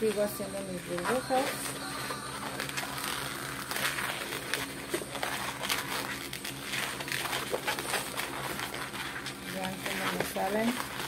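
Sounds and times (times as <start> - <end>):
balloon squeaks: 0.0 - 11.0
latex balloon rubbing and crinkling: 0.0 - 11.0.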